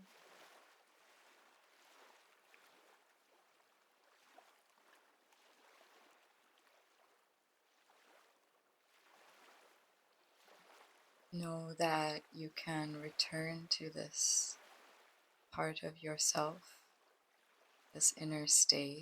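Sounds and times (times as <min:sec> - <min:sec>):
faint ocean waves washing: 0:00.0 - 0:19.0.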